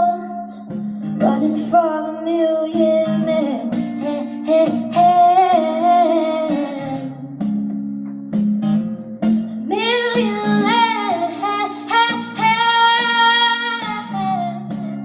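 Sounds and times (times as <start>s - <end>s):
woman singing wordless melody: 0.0s - 7.4s, 9.6s - 15.0s
guitar accompaniment: 0.0s - 15.0s.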